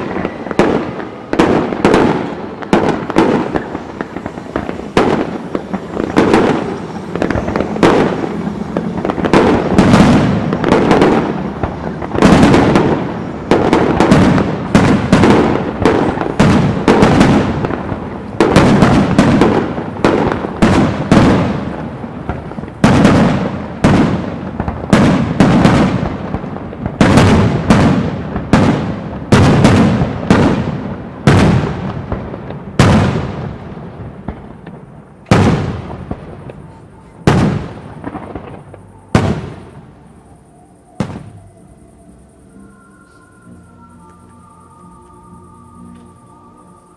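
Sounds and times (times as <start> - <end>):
firework shells bursting: 0.0 - 40.0.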